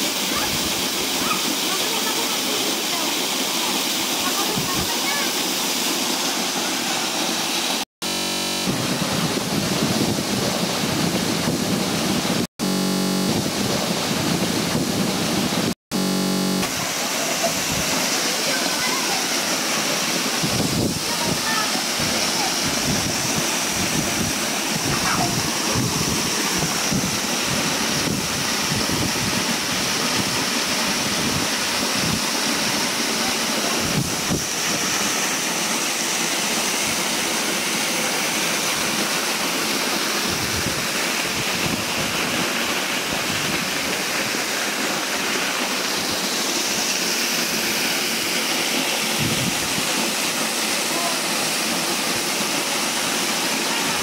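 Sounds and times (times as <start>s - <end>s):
waterfall rushing onto rocks: 0.0s - 7.8s, 16.6s - 54.0s.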